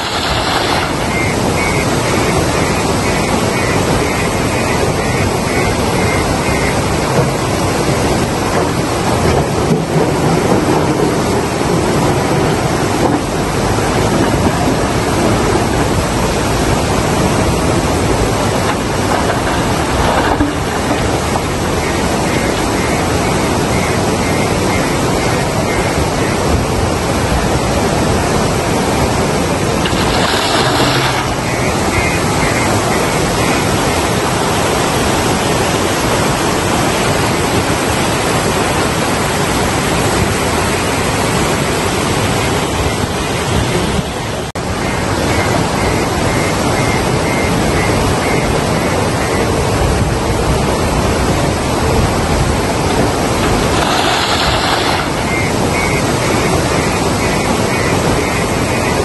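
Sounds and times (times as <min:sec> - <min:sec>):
loud steady rushing noise: 0:00.0 - 0:59.0.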